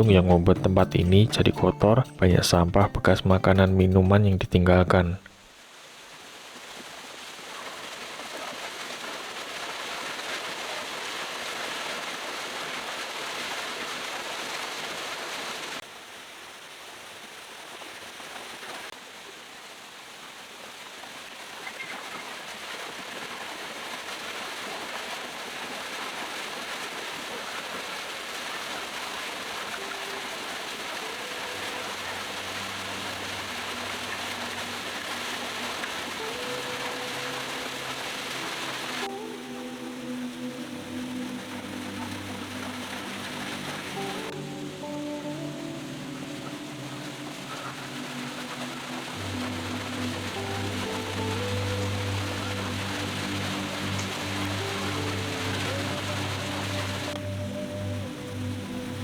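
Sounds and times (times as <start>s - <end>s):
waterfall rushing and splashing: 4.2s - 59.0s.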